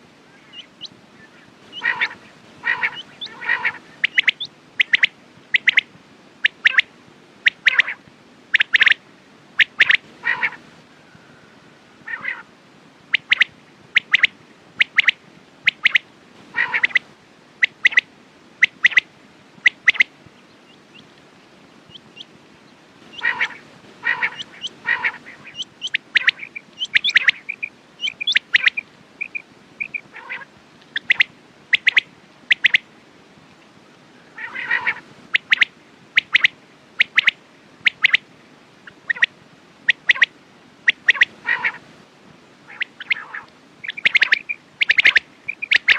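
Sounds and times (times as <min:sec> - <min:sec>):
quails calling: 0:00.3 - 0:09.0, 0:09.6 - 0:10.7, 0:12.0 - 0:12.5, 0:13.1 - 0:21.2, 0:21.9 - 0:22.3, 0:23.0 - 0:32.8, 0:34.3 - 0:38.2, 0:38.8 - 0:39.3, 0:39.9 - 0:41.9, 0:42.6 - 0:45.9.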